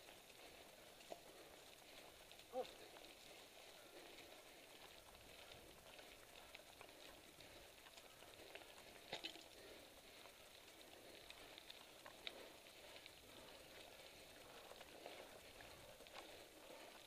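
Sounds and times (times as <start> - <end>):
bike tyres rolling over dirt: 0.0 - 17.0
small ticks and clicks: 0.0 - 17.0.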